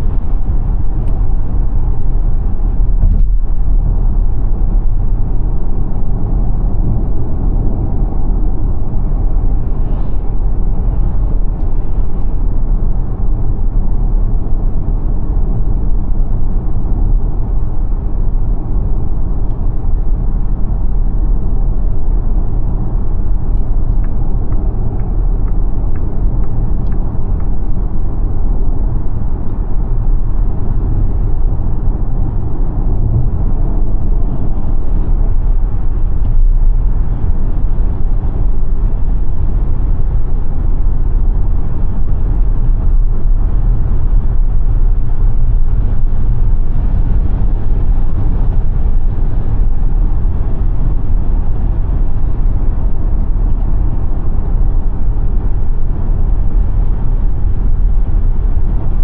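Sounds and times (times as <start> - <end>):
tyre and road noise: 0.0 - 59.0.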